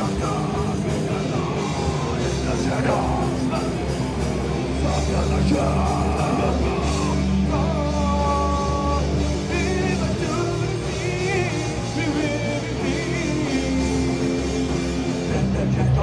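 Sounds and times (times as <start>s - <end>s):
heavy metal band playing: 0.0s - 16.0s
wavering lead guitar notes: 0.0s - 16.0s.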